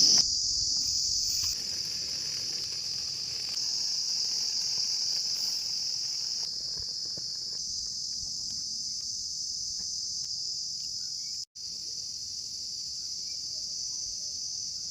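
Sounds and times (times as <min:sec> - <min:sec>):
crickets chirping: 0:00.0 - 0:14.9.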